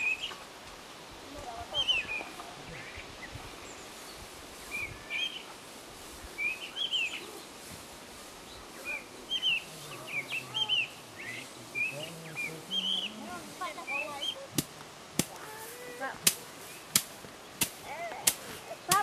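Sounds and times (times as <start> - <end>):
faint outdoor background: 0.0 - 19.0
small birds chirping: 0.0 - 19.0.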